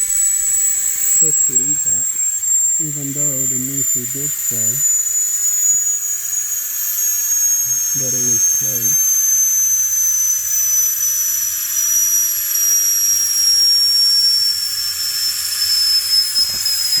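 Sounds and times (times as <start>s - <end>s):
pressurized gas hissing: 0.0s - 5.4s, 7.5s - 15.2s, 16.1s - 17.0s
high whistle falling in pitch: 0.0s - 17.0s.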